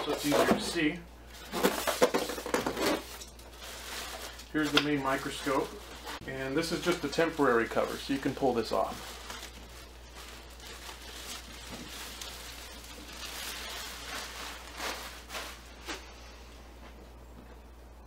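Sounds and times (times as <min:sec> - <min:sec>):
plastic cover rustling and crinkling: 0:00.0 - 0:16.1.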